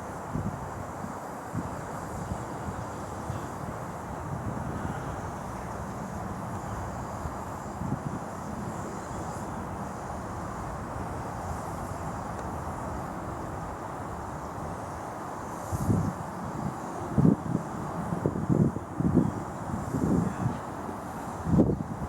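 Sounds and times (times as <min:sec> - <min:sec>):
steady rushing noise: 0:00.0 - 0:22.0
steam locomotive exhaust puffs: 0:00.0 - 0:22.0.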